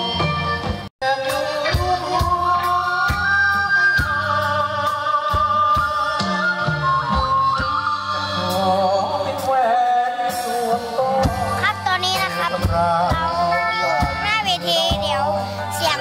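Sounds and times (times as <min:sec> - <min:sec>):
bass and guitars: 0:00.0 - 0:16.0
drum kit beating: 0:00.0 - 0:16.0.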